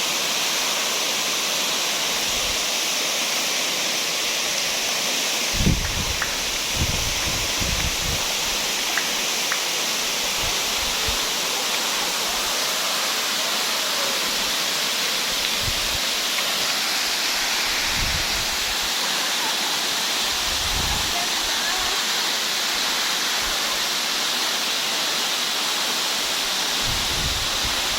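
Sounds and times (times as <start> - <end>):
flowing water: 0.0 - 27.9.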